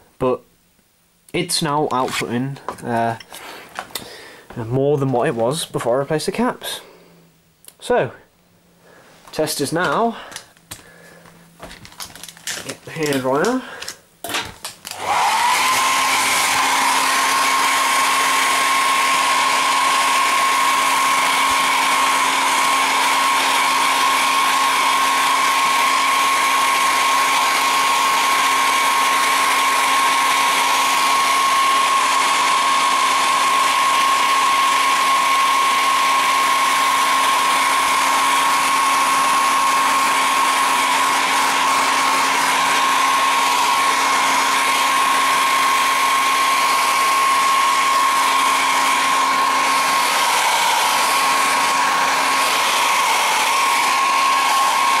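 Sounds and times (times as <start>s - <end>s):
hair dryer running: 9.2s - 55.0s.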